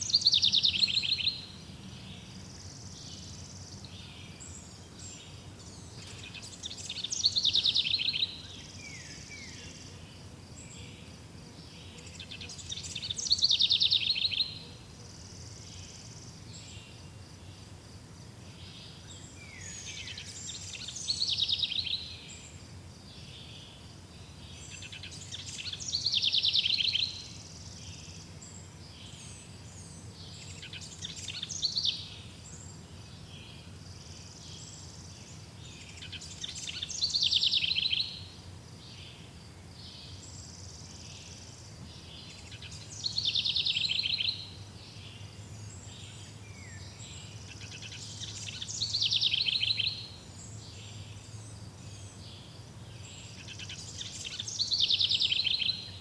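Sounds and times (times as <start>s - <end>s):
faint bird chirps: 0.0s - 17.8s, 18.5s - 39.2s, 39.8s - 56.0s
songbird trilled song: 0.0s - 17.8s, 18.4s - 56.0s.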